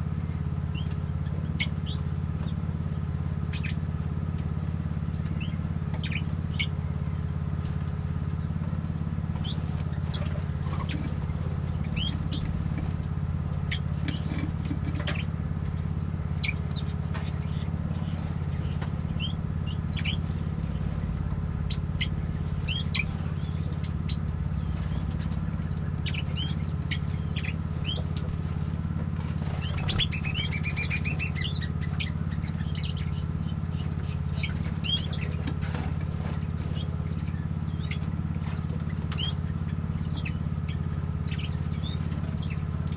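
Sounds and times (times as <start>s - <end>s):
small birds chirping: 0.0s - 42.9s
steady low hum: 0.0s - 42.9s.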